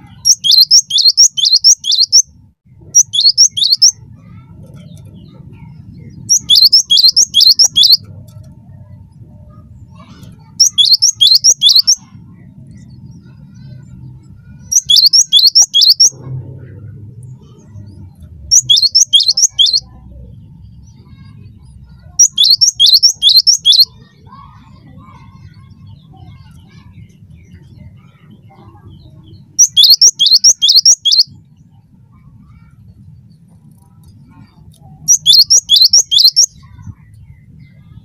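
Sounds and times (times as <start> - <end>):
faint low rumble: 0.0 - 38.0.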